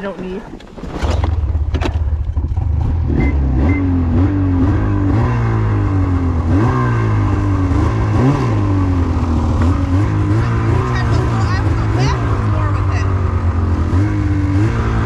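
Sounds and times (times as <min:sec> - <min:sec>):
vehicle engine revving: 0:00.9 - 0:15.0.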